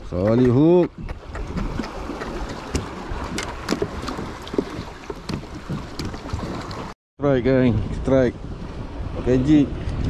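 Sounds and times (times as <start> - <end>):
water against kayak: 0.0 - 10.0
wind on microphone: 0.0 - 10.0.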